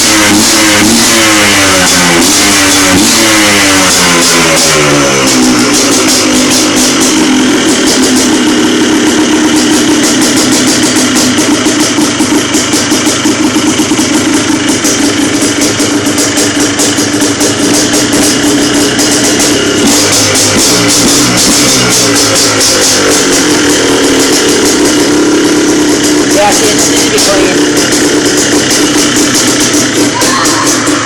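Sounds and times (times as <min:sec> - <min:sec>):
two-stroke engine revving and idling: 0:00.0 - 0:31.0.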